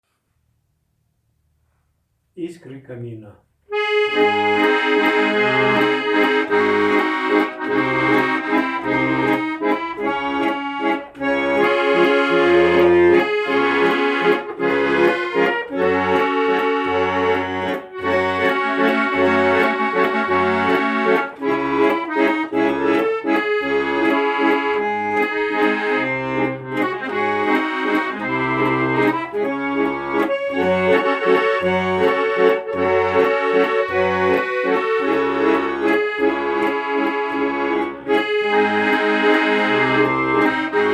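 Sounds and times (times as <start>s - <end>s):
accordion music: 2.4s - 40.9s.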